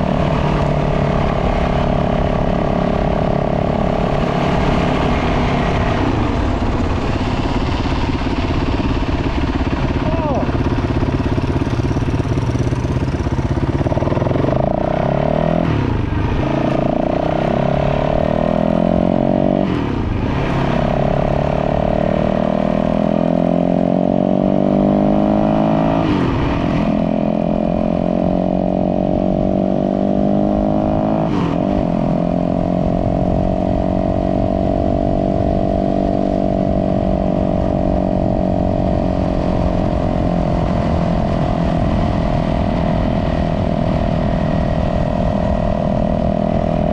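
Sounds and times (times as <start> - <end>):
dirt bike engine: 0.0 - 42.1.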